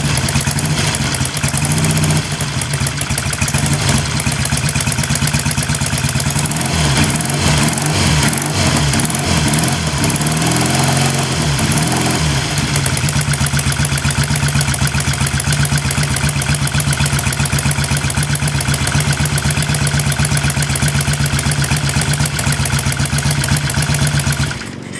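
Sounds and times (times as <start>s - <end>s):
motorcycle engine idling: 0.0s - 24.9s.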